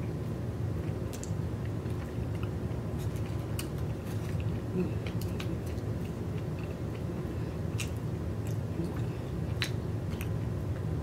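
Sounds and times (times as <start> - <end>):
steady low hum: 0.0 - 11.0
chewing: 0.8 - 7.1, 7.7 - 10.4.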